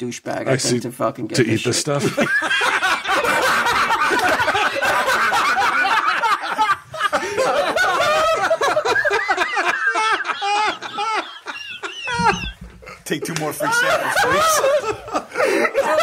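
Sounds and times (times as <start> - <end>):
men laughing: 1.4 - 16.0.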